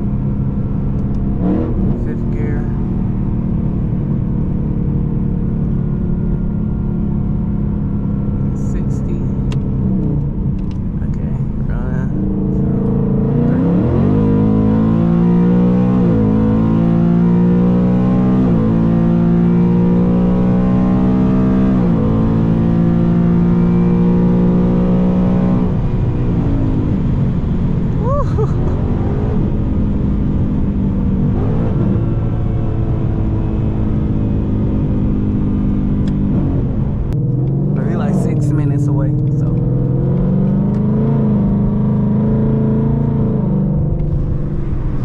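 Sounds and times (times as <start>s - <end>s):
car engine at full throttle: 0.0s - 45.0s.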